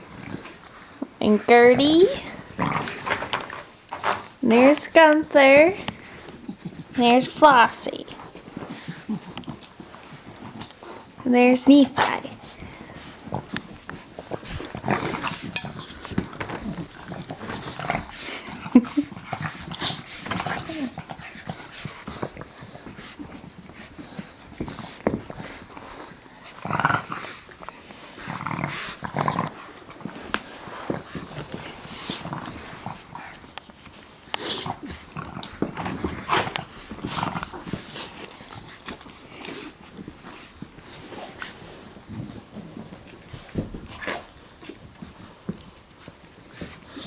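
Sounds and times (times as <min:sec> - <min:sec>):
puppies scuffling: 0:00.0 - 0:47.0
puppy vocal sounds: 0:00.0 - 0:47.0.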